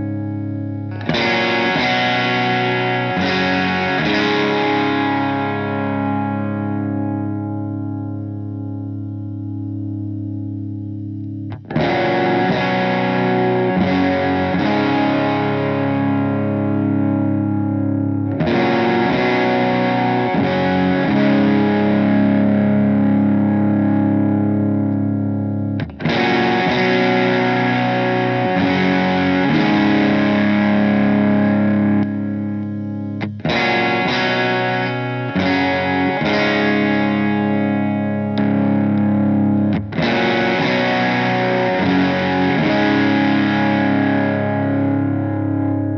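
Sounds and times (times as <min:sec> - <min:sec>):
overdriven electric guitar chords: 0:00.0 - 0:45.9.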